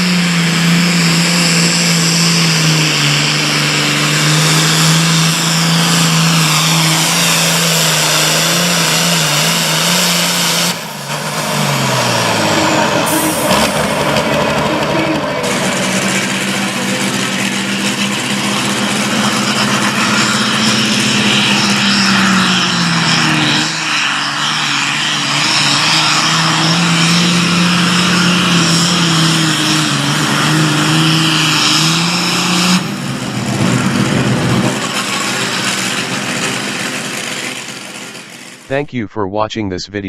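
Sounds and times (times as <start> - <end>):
tractor diesel engine under load: 0.0 - 39.5.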